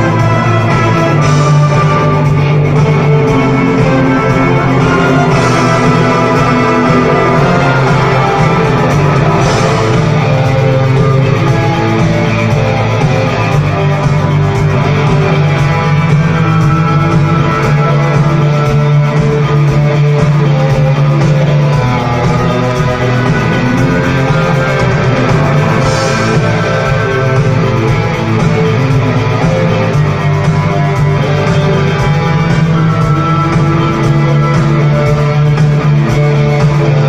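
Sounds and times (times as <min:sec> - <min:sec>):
electric guitar: 0:00.0 - 0:37.0
rock band and orchestra playing: 0:00.0 - 0:37.0.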